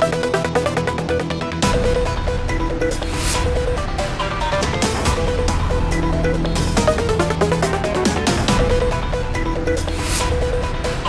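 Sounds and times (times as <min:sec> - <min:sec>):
electronic music with synth melody: 0:00.0 - 0:11.0.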